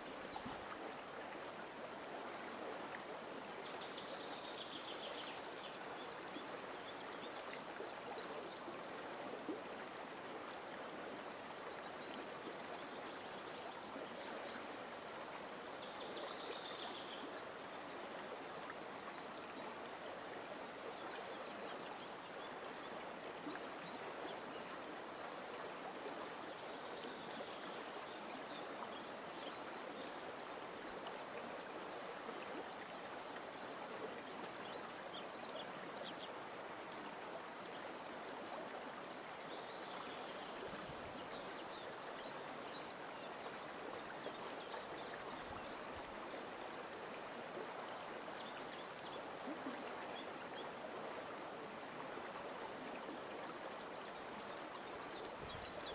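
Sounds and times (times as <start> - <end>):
river rushing and babbling: 0.0 - 55.9.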